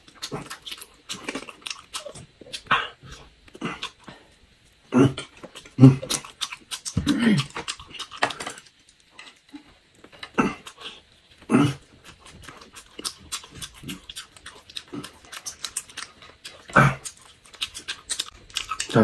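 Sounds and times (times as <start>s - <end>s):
chewing and lip smacking: 0.0s - 4.2s, 5.2s - 19.0s.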